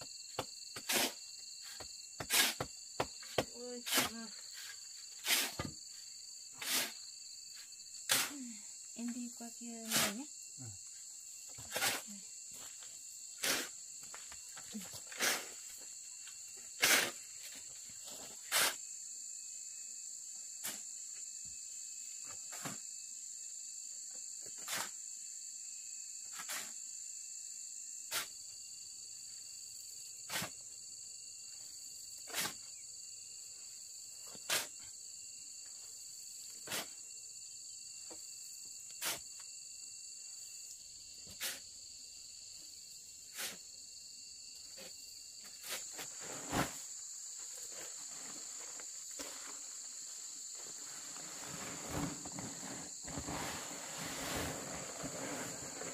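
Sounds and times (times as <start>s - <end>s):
insect chorus: 0.0s - 55.9s.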